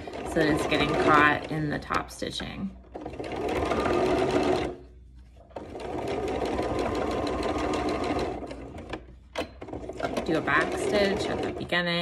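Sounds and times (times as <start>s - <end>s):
electric sewing machine stitching: 0.0s - 2.1s, 2.9s - 4.8s, 5.6s - 12.0s.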